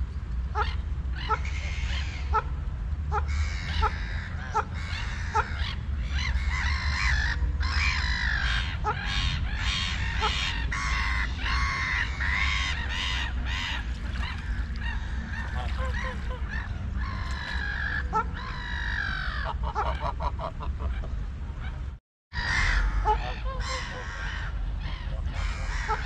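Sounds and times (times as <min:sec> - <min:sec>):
waterfowl calling: 0:00.5 - 0:02.5, 0:03.1 - 0:21.2, 0:22.4 - 0:26.0.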